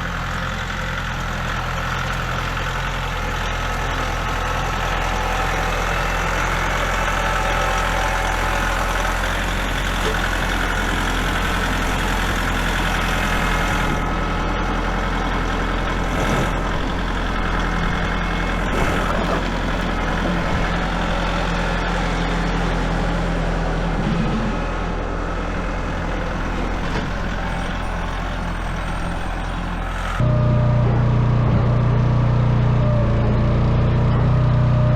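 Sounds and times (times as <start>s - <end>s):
engine running at low revs: 0.0s - 34.9s.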